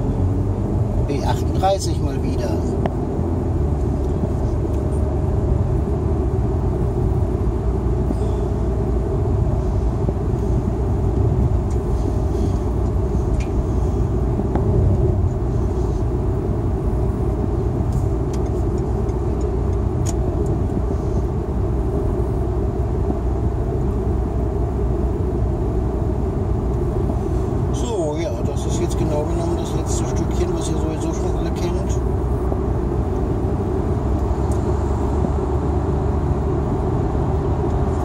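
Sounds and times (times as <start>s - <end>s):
car road noise rumble: 0.0s - 38.0s.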